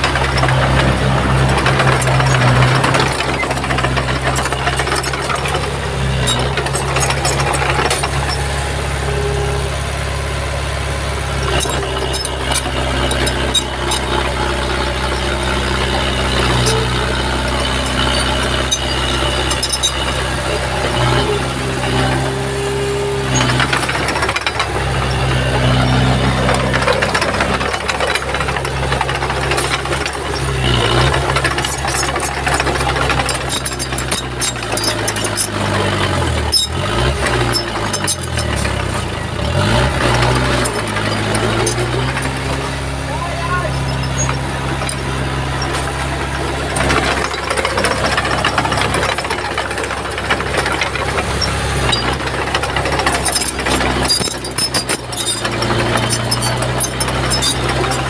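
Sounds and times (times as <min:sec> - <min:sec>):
clanks and rattles: 0:00.0 - 0:09.9, 0:10.6 - 0:58.0
bulldozer diesel engine: 0:00.0 - 0:58.0.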